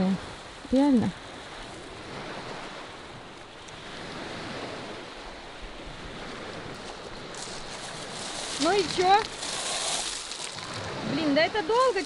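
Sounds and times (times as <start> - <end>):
waves washing onto pebbles: 0.0 - 12.0
wind on microphone: 0.0 - 12.0.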